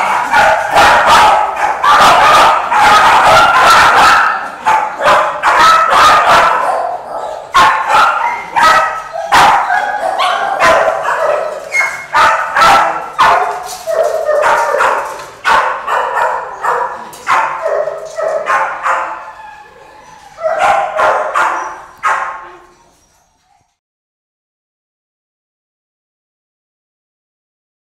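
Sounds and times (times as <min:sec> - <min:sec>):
many dogs barking: 0:00.0 - 0:22.7.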